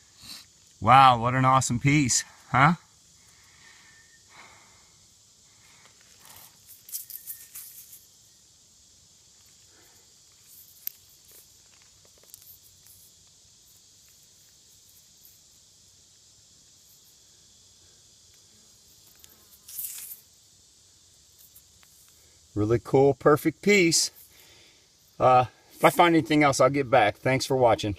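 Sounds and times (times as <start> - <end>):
insect chorus buzzing: 0.0 - 27.9.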